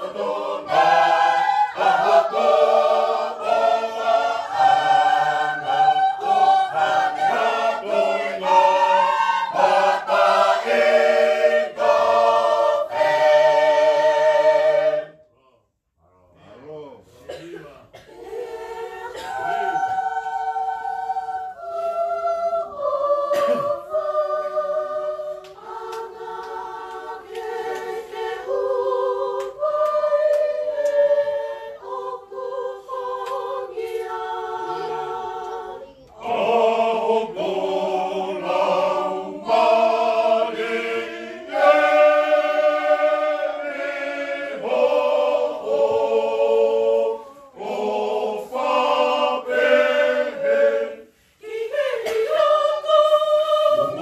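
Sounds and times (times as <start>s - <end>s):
choir singing a hymn unaccompanied: 0.0s - 15.2s, 17.3s - 54.0s.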